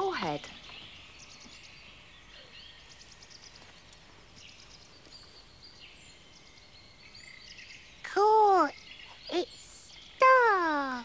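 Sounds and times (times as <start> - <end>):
faint birdsong: 0.0 - 11.0
low background hiss: 0.0 - 11.0.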